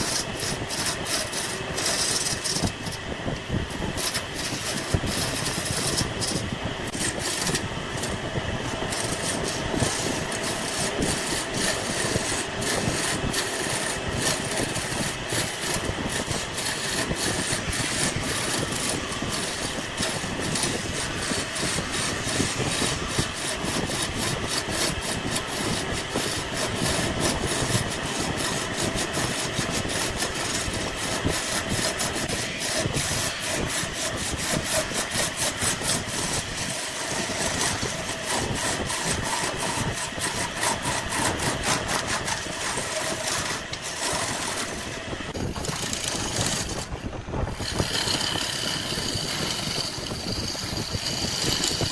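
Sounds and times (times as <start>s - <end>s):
tool scraping spinning wood: 0.0s - 51.9s
woodworking lathe running: 0.0s - 51.9s.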